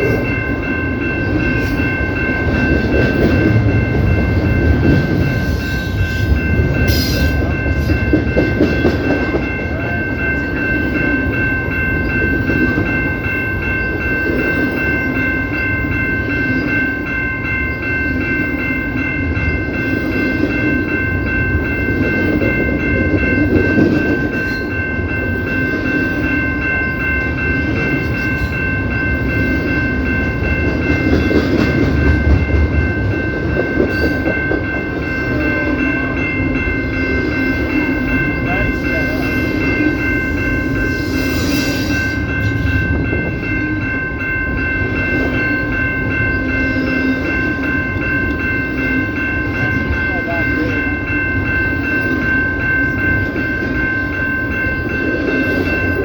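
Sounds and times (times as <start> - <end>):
freight train rumbling past: 0.0 - 56.0
steady high-pitched tones: 0.0 - 56.0.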